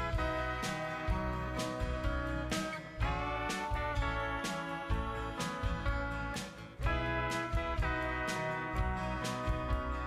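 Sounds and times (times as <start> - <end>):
country guitar music: 0.0 - 10.0.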